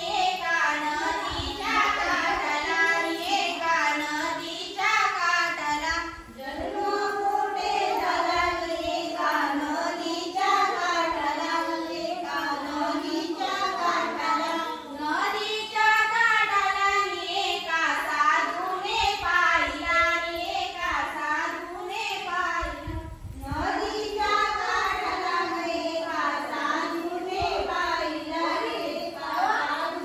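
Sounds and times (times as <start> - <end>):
women and girls singing: 0.0 - 30.0.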